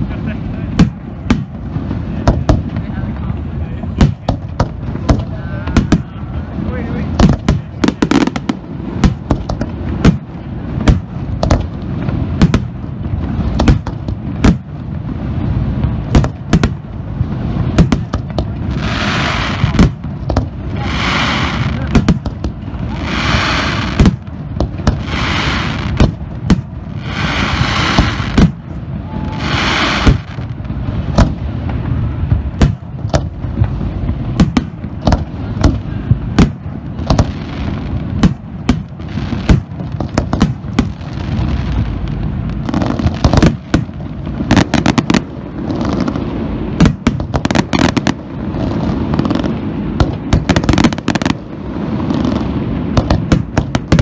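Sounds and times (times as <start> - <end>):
low rumble: 0.0 - 47.4
fireworks shells booming: 0.0 - 54.0
hissing firework bursts: 0.0 - 54.0.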